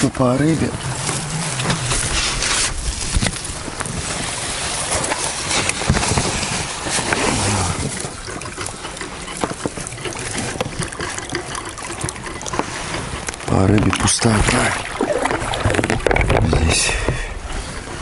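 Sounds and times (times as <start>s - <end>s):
water sloshing against boat: 0.0s - 18.0s.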